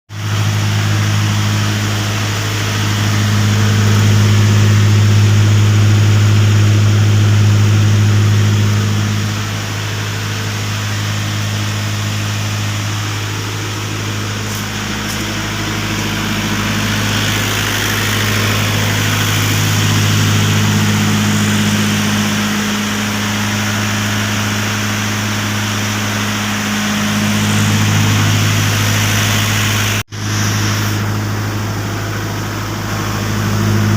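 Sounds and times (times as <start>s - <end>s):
diesel generators humming: 0.1s - 33.9s.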